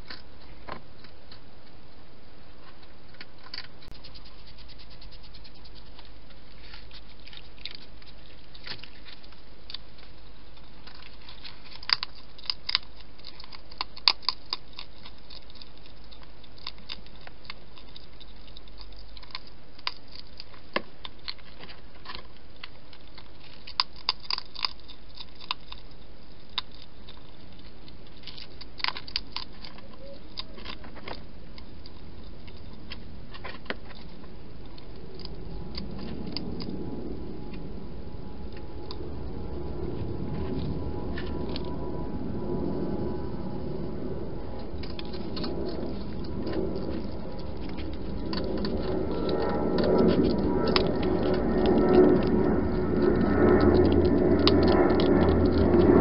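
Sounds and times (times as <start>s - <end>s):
hedgehog crunching food: 0.0s - 1.8s, 2.4s - 56.0s.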